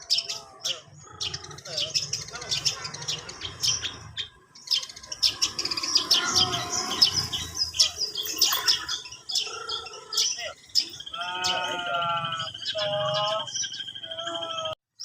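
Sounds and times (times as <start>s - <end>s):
shrike chirping and twittering: 0.0s - 15.0s.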